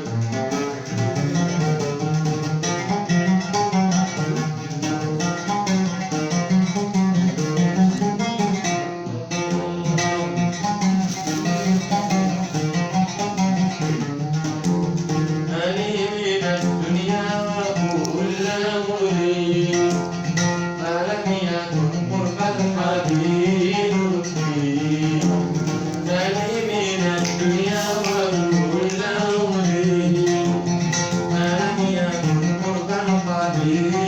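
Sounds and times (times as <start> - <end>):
plucked string instrument melody: 0.0 - 34.0.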